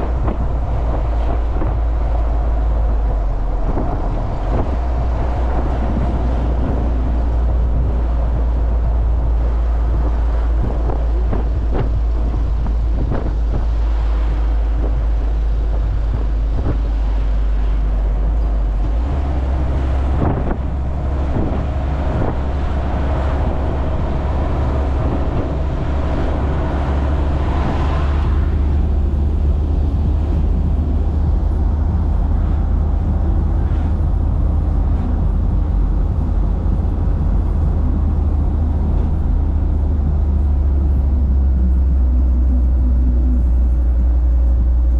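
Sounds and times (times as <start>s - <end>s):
minibus engine and road rumble: 0.0s - 44.9s.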